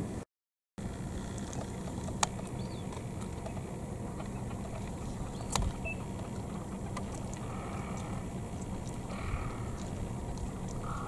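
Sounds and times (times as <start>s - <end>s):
car engine idling: 0.8s - 11.0s.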